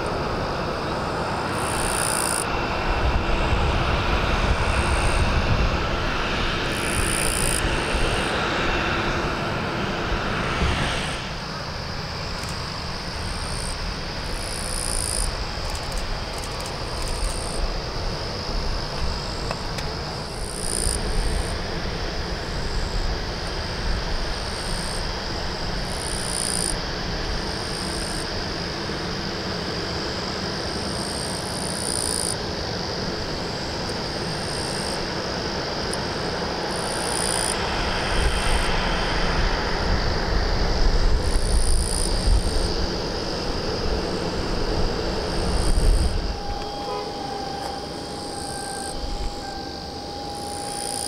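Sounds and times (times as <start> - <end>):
insects chirping: 0.0 - 51.0
jet engines at taxi power: 0.0 - 51.0.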